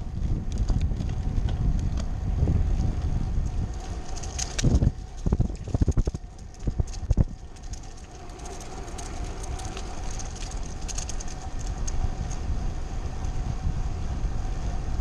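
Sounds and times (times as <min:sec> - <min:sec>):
faint steady whine: 0:00.0 - 0:15.0
wind and tyres on pavement: 0:00.0 - 0:15.0.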